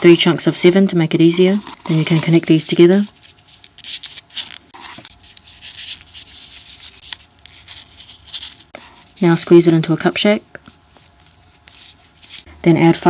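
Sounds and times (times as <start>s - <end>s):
paper rustling: 1.4s - 12.5s.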